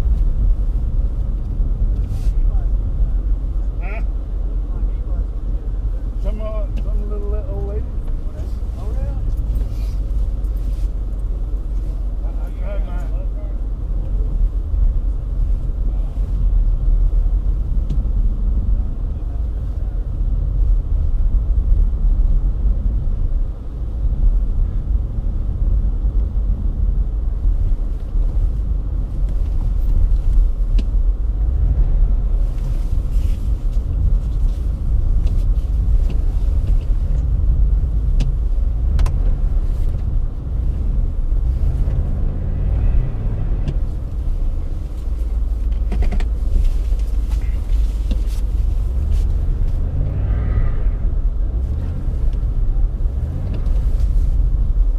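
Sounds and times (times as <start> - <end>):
car engine rumbling: 0.0 - 54.9.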